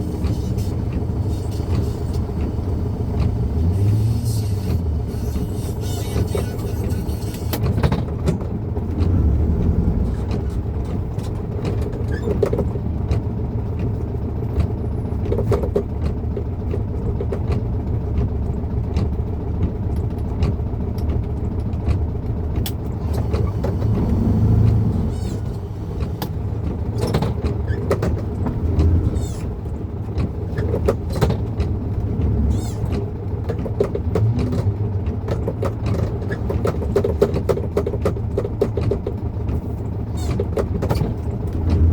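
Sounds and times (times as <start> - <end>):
car engine droning: 0.0 - 41.9.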